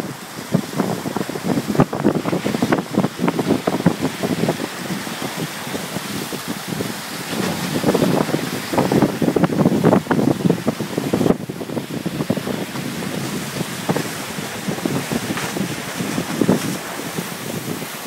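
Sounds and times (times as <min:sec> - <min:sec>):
water rushing past hulls: 0:00.0 - 0:18.0
wind buffeting the microphone: 0:00.0 - 0:18.0.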